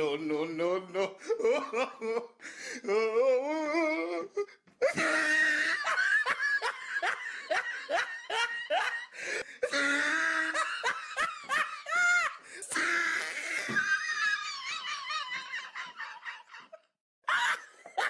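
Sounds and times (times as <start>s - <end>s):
person laughing heartily: 1.0s - 18.0s.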